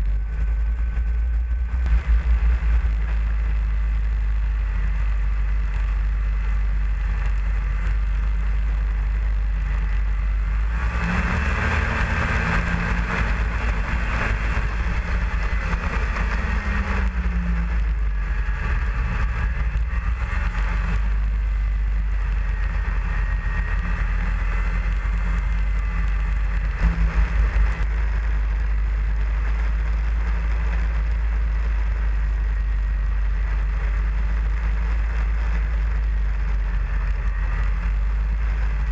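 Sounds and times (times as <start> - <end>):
snowmobile engine running: 0.0 - 38.9
wind rumble on microphone: 0.0 - 38.9.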